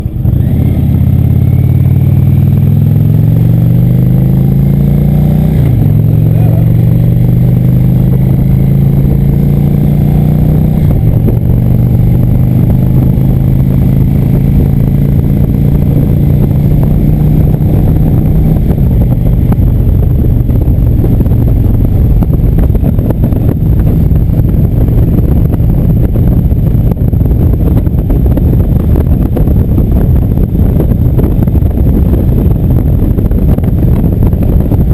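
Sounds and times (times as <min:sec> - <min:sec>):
motorcycle engine shifting gears: 0:00.0 - 0:34.9
wind rushing over microphone: 0:00.0 - 0:34.9.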